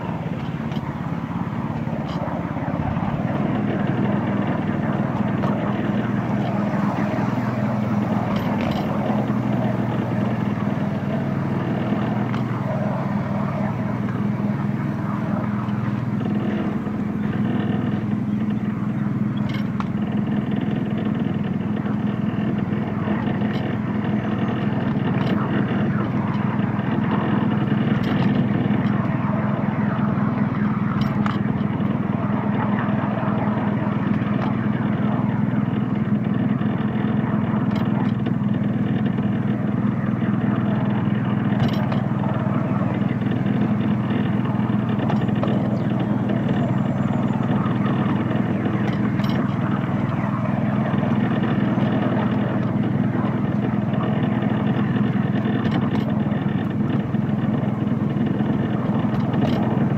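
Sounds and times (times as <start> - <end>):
small petrol engine running: 0.0 - 30.3, 33.6 - 59.9.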